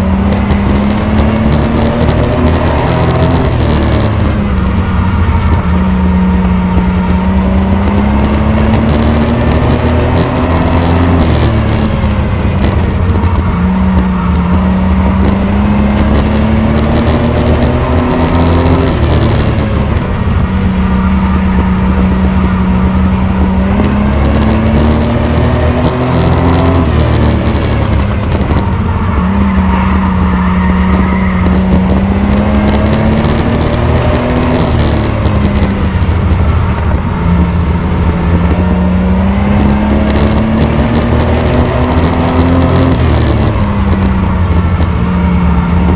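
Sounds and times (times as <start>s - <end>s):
race truck engine accelerating: 0.0s - 45.9s
road and wind noise: 0.0s - 45.9s.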